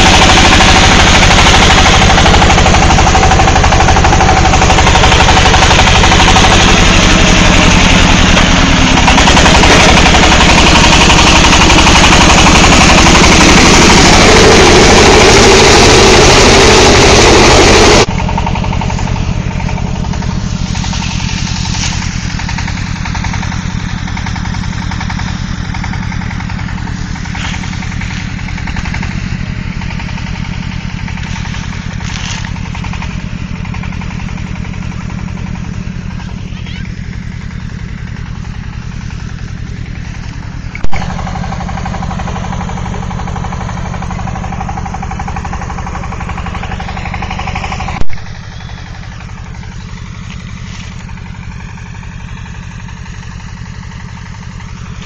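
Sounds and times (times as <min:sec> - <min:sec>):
diesel engine clattering: 0:00.0 - 0:55.0.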